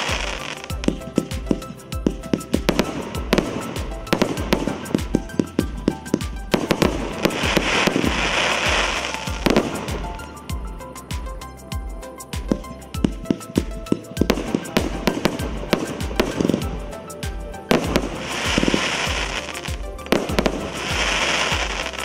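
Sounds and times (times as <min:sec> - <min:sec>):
fireworks bursting bangs: 0:00.0 - 0:10.5, 0:12.4 - 0:22.0
fireworks hissing: 0:00.0 - 0:22.0.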